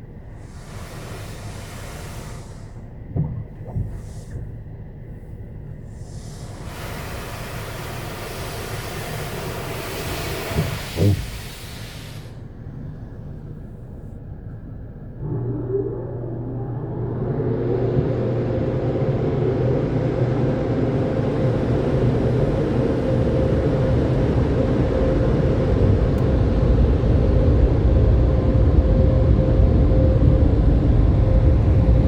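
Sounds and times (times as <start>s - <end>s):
car wash dryer blowers: 0.0s - 4.5s, 5.1s - 14.2s, 15.2s - 32.0s.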